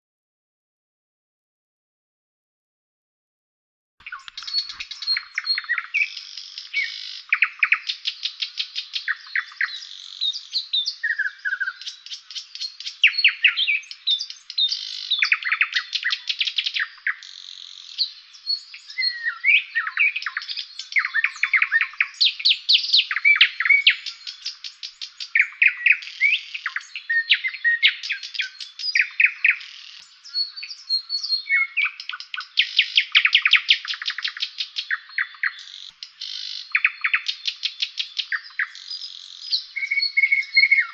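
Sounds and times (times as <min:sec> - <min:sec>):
songbirds singing: 0:04.0 - 0:40.9.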